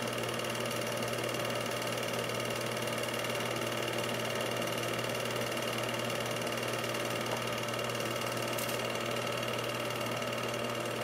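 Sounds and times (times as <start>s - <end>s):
film projector whirring: 0.0s - 11.0s.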